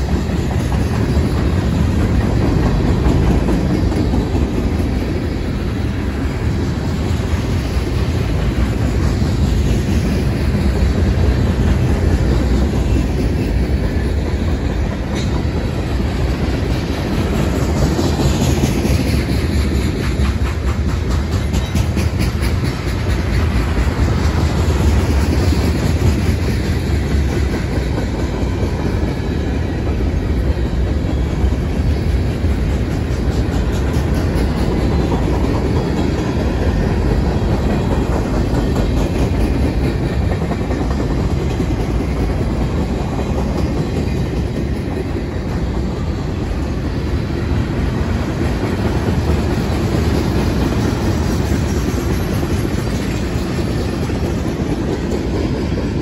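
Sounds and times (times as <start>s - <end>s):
freight train wheels rumbling: 0.0s - 56.0s
wheels clickety-clack: 0.0s - 56.0s.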